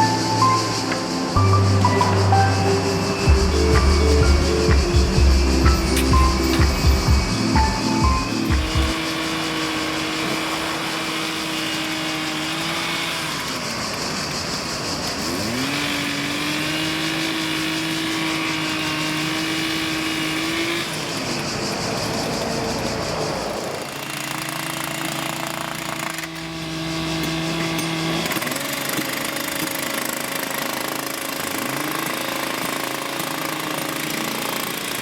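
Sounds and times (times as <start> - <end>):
excavator diesel engine revving: 0.0 - 35.0.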